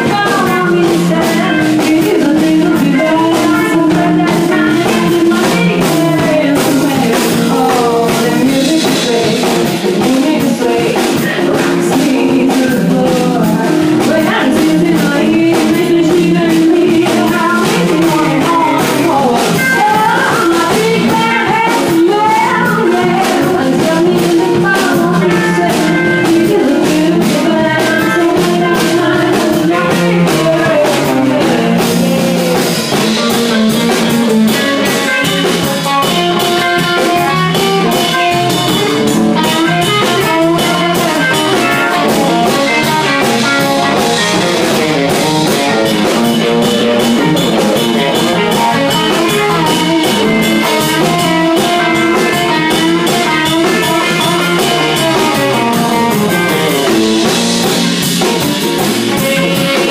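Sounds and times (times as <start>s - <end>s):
blues guitar: 0.0s - 59.9s
drum kit steady beat: 0.0s - 59.9s.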